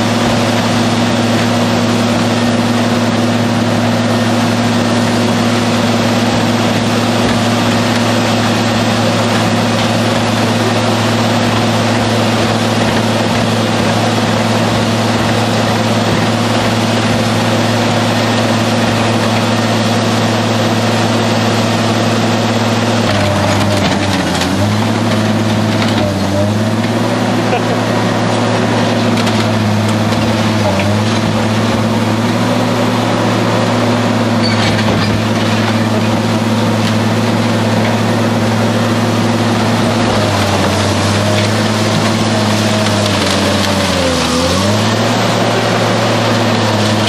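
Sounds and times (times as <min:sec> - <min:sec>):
diesel engine droning: 0:00.0 - 0:47.0
shredder crunching car body: 0:00.0 - 0:47.0.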